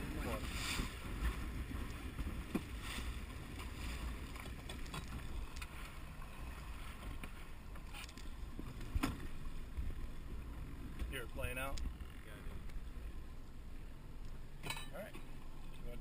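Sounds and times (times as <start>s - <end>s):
outboard motor rumble: 0.0s - 16.0s
water against hull: 0.0s - 16.0s.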